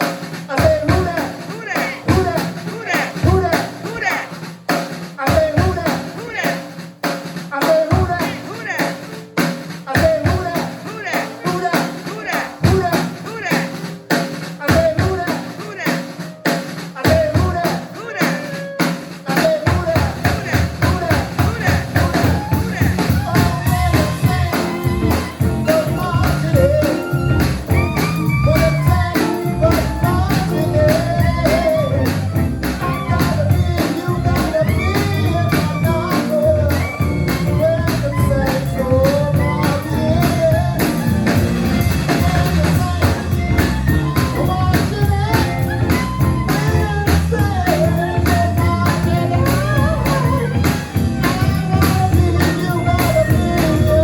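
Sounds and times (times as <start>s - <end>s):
live band playing upbeat jazz: 0.0s - 54.0s.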